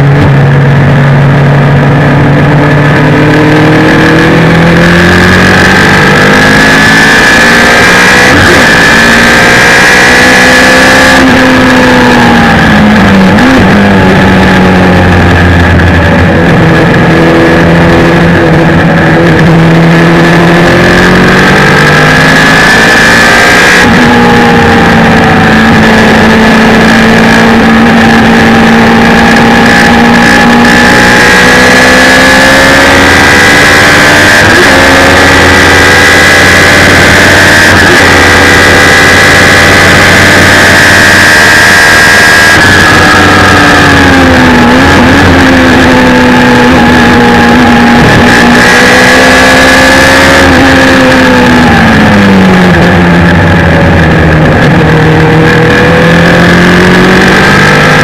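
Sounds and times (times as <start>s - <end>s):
loud race car engine: 0.0s - 58.0s.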